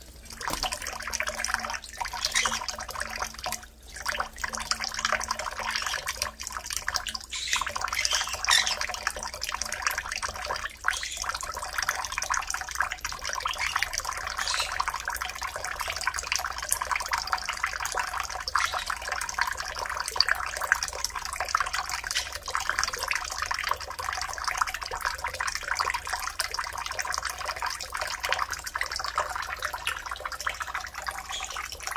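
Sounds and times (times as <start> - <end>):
tap water pouring into bowl: 0.0 - 31.9.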